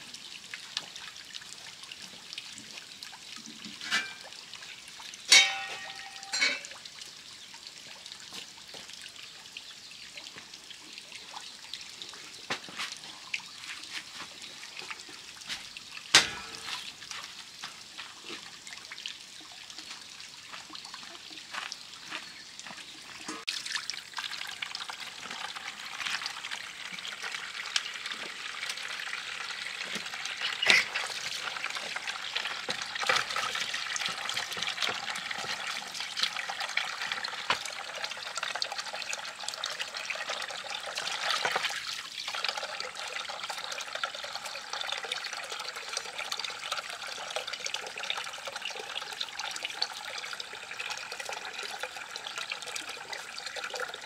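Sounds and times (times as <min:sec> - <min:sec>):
running water trickle: 0:00.0 - 0:54.0.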